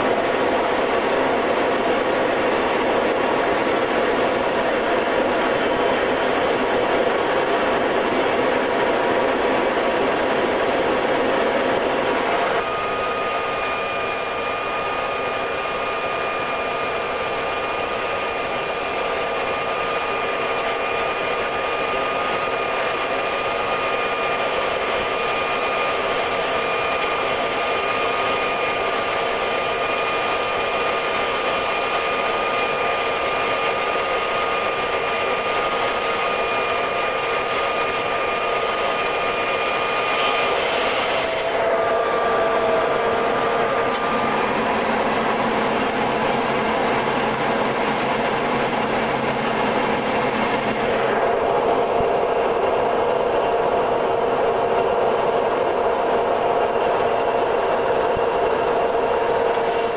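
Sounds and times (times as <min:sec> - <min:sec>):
high whine: 0:00.0 - 0:59.9
turboprop engine drone: 0:00.0 - 0:59.9.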